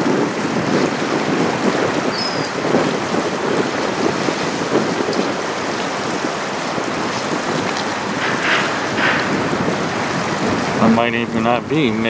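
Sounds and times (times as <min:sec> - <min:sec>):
river water washing: 0:00.0 - 0:12.0
wind buffeting microphone: 0:00.0 - 0:12.0.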